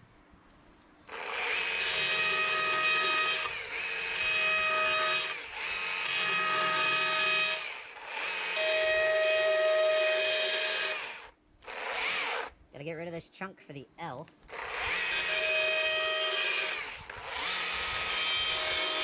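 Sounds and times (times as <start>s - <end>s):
chainsaw cutting wood: 1.1s - 12.5s, 14.5s - 19.0s.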